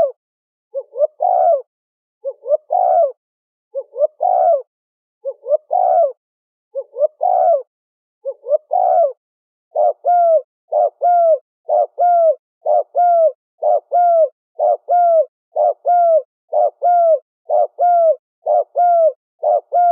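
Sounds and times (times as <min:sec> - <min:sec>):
dove cooing: 0:00.0 - 0:19.9.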